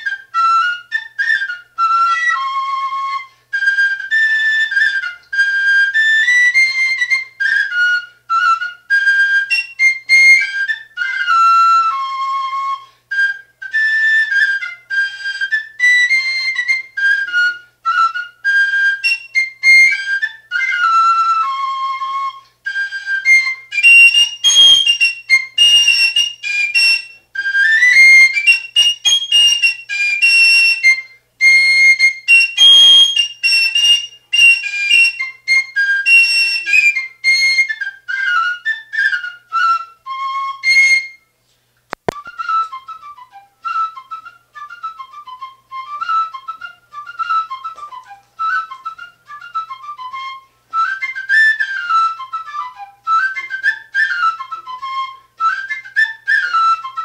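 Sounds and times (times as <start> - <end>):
fife playing dance tune: 0.0 - 41.3, 41.9 - 57.0.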